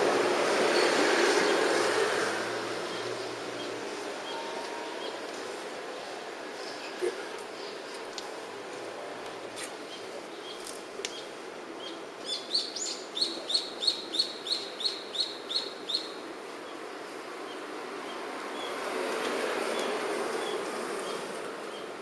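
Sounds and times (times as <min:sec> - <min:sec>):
steady low hiss: 0:00.0 - 0:22.0.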